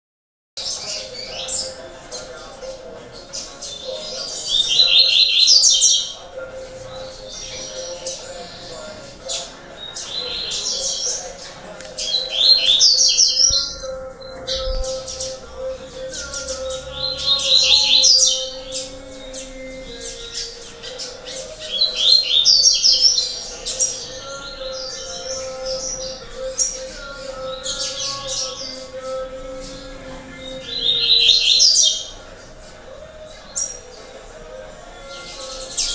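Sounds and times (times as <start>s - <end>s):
birds chirping: 0.6s - 35.9s.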